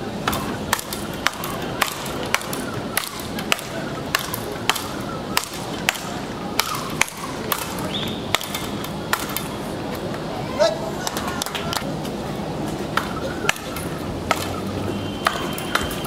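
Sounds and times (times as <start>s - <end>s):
rackets striking ball: 0.2s - 10.3s, 11.0s - 12.0s, 12.8s - 16.0s.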